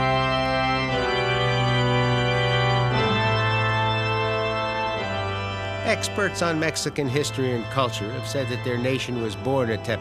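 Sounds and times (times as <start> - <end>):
sustained organ chords: 0.0 - 10.0.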